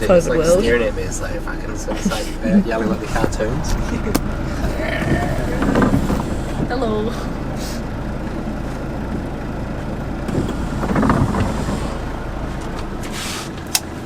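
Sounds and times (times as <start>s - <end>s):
bus engine droning: 0.0s - 14.0s.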